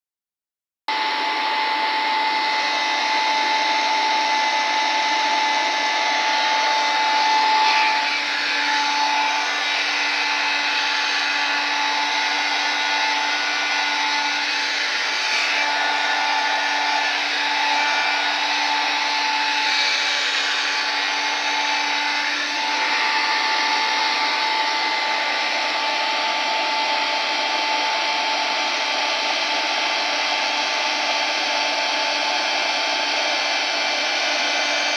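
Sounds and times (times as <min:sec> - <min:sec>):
hair dryer running: 0:00.9 - 0:34.9.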